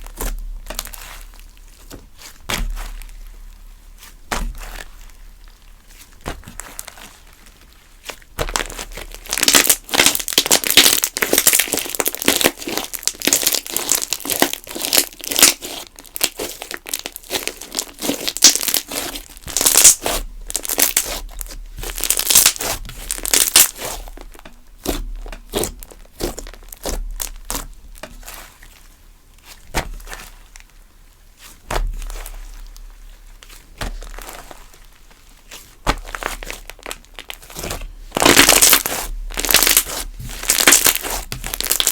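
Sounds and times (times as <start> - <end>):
slime squished by hand: 0.0 - 30.8, 31.4 - 41.9.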